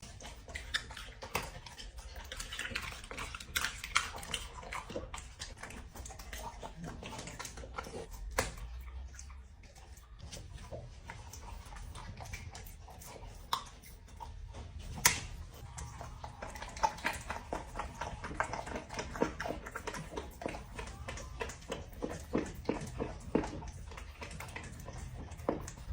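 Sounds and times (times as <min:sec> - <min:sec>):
dog chewing and crunching: 0:00.0 - 0:25.9.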